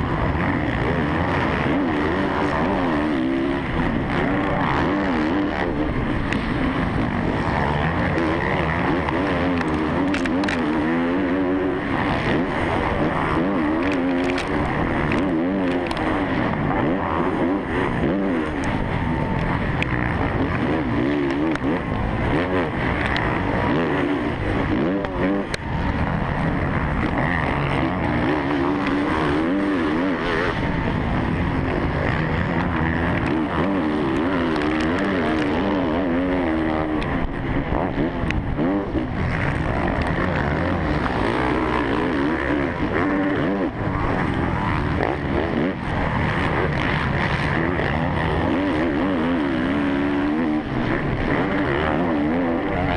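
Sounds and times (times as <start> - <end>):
motorbike engine revving: 0.0 - 52.9
other motorbike engines: 0.0 - 52.9.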